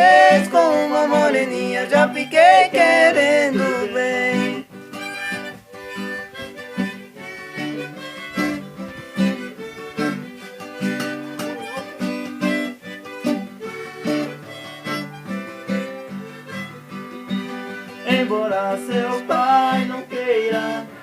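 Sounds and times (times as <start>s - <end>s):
instrumental folk dance music: 0.0s - 21.0s.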